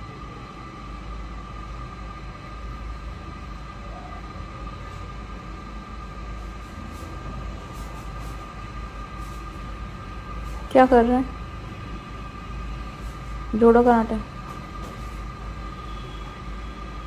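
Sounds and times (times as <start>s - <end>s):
low rumbling hum: 0.0s - 17.0s
thin steady whine: 0.0s - 17.0s.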